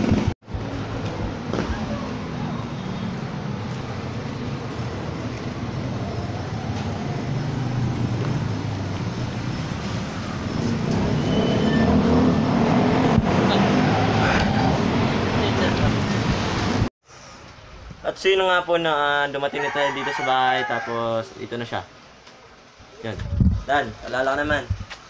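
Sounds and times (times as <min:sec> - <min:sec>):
street traffic engine hum: 0:00.0 - 0:18.1, 0:19.2 - 0:25.0.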